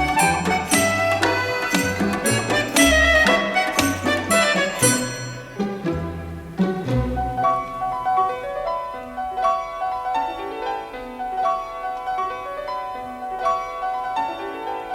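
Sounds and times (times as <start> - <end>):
plucked piano-like melody: 0.0 - 14.9.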